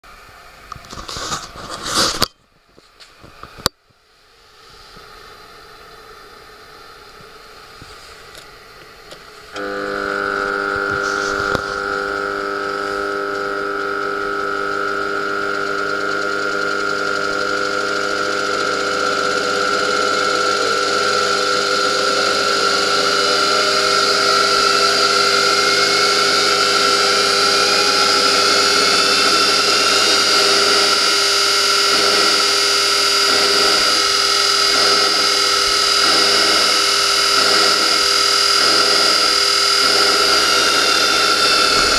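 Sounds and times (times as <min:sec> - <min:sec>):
grinder motor humming and whining: 0:04.4 - 0:41.9.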